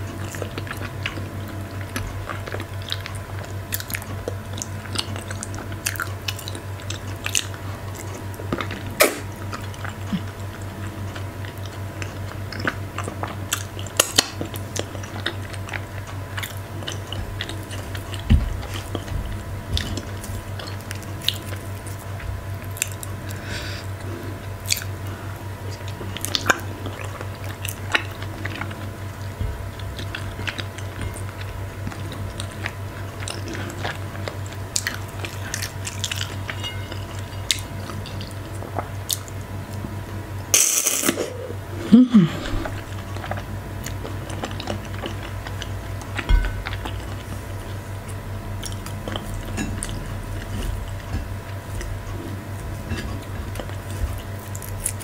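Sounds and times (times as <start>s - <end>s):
chewing and wet mouth sounds: 0.0s - 40.0s, 42.2s - 55.0s
steady low hum: 0.0s - 55.0s.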